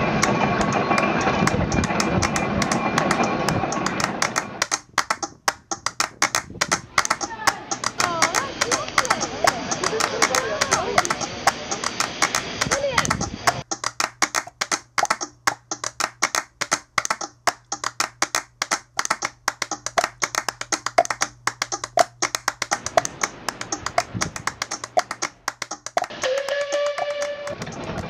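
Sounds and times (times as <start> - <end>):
rhythmic percussive taps: 0.0 - 28.0.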